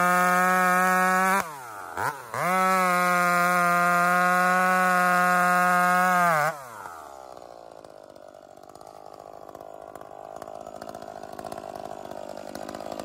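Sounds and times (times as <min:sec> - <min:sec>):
chainsaw engine revving and idling: 0:00.0 - 0:13.0.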